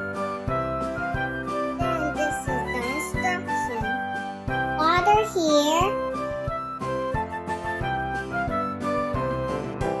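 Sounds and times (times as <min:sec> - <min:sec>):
flute-like melody over beat: 0:00.0 - 0:04.8, 0:06.0 - 0:10.0.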